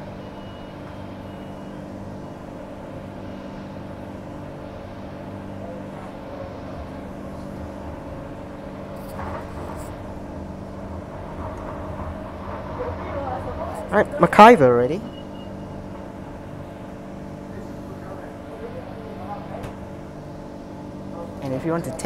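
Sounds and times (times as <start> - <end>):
train cabin hum with held tones: 0.0 - 22.0
wheels rumbling on rails: 0.0 - 22.0.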